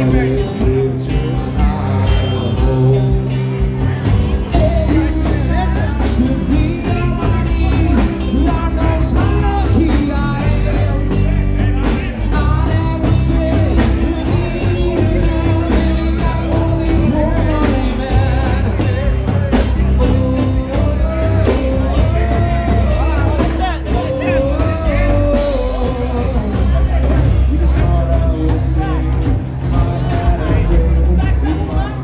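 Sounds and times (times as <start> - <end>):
drum kit: 0.0 - 32.0
electric guitars: 0.0 - 32.0
man singing into a microphone: 0.0 - 32.0.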